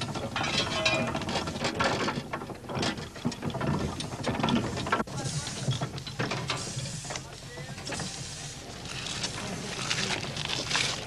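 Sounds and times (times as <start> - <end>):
steam engine gearing clanking: 0.0 - 11.0.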